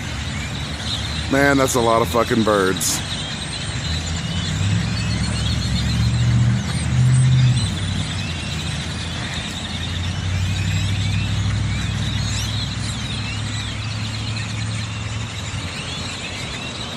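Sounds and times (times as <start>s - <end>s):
flock of birds chirping: 0.0s - 16.9s
low rumble of traffic: 0.0s - 16.9s.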